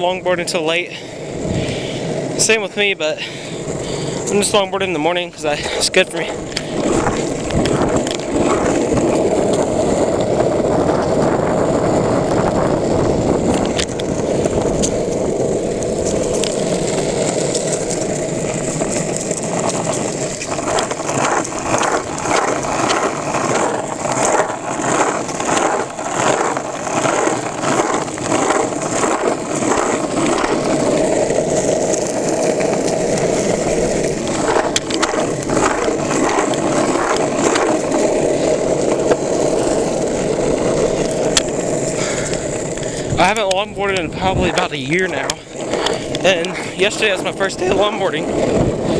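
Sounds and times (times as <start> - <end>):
longboard wheels rolling on asphalt: 0.0 - 48.9.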